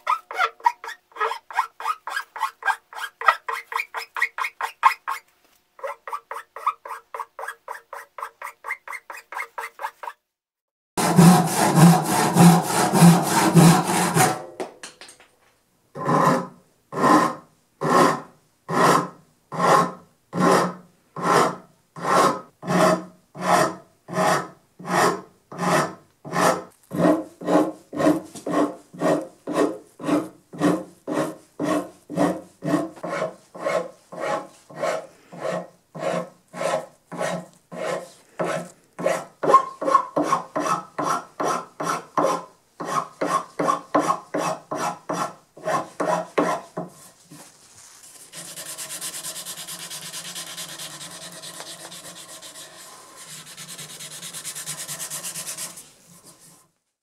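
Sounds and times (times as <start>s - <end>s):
hand file rasping on wood: 0.0s - 5.2s, 5.8s - 10.2s, 11.0s - 14.4s, 16.0s - 47.1s, 48.1s - 56.6s.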